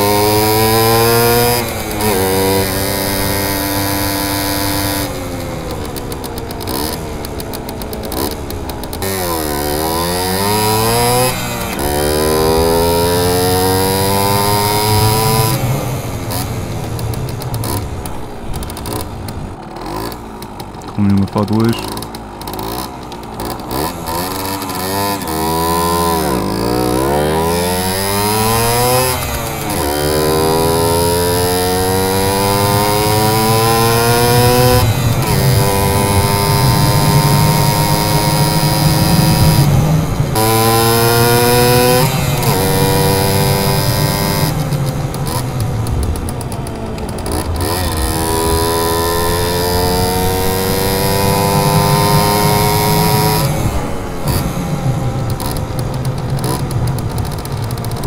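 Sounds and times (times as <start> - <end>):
moped engine revving: 0.0 - 58.0.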